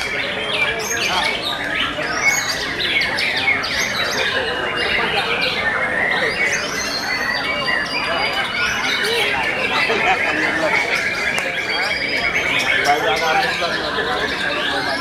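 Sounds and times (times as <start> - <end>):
birds singing whistles and trills: 0.0 - 15.0.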